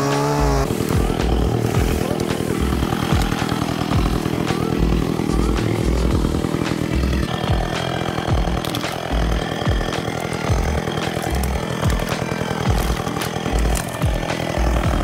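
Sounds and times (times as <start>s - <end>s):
chainsaw cutting branches: 0.0s - 15.0s.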